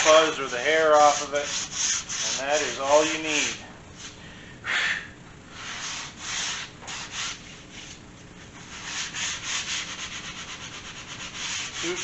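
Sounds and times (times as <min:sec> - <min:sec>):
sandpaper rubbing on wood panel: 0:00.0 - 0:04.2, 0:05.6 - 0:08.0, 0:08.6 - 0:12.0.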